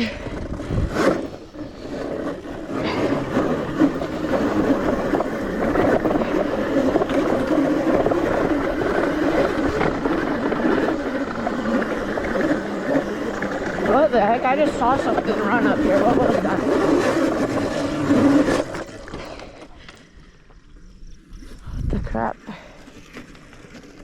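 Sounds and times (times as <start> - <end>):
electric dirt bike running: 0.0 - 24.0.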